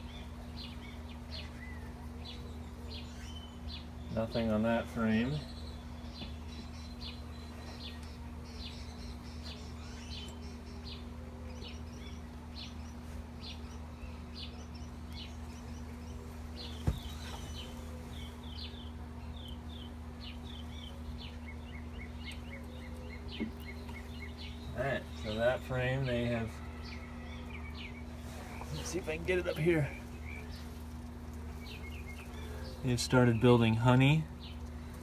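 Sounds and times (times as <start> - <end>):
honeybees humming: 0.0 - 35.0
small birds chirping: 0.0 - 35.0.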